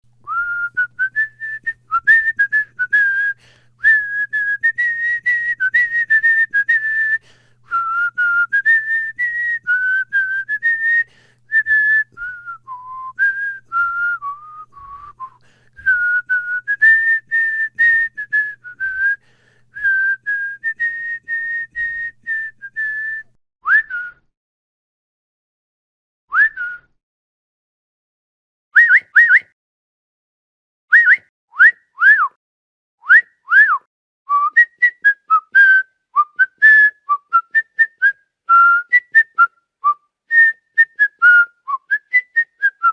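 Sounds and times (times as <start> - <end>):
man whistling a tune: 0.2 - 24.3, 26.3 - 27.0, 28.8 - 29.6, 30.9 - 32.4, 33.0 - 42.9.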